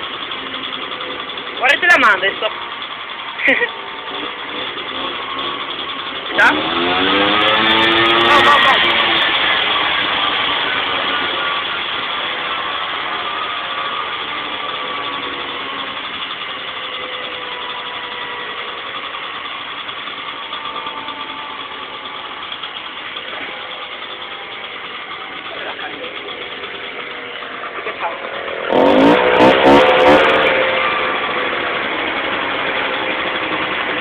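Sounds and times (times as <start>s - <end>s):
scooter engine idling: 0.0s - 34.0s.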